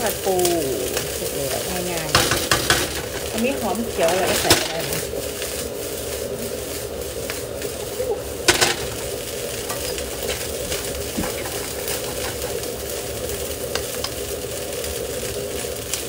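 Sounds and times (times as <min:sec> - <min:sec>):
rice sizzling in a wok: 0:00.0 - 0:16.0.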